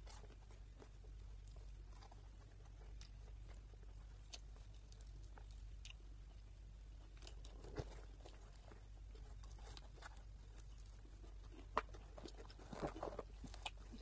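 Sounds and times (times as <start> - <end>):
low room hum: 0.0 - 14.0
small clicks and rustles: 0.0 - 14.0.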